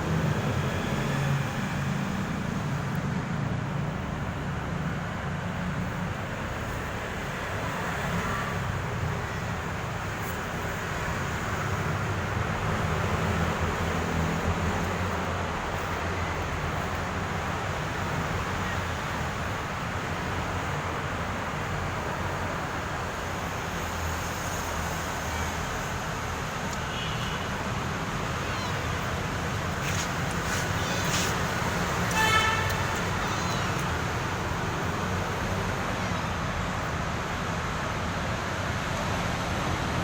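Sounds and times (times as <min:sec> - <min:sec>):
outdoor background rumble: 0:00.0 - 0:40.0.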